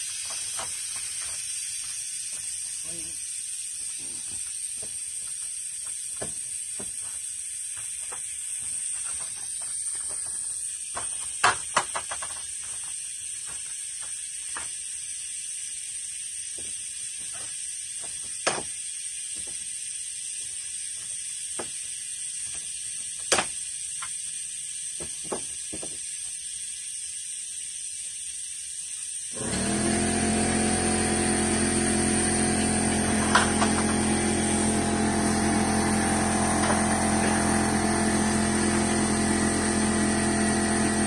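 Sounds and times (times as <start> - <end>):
steady high hiss: 0.0 - 41.0.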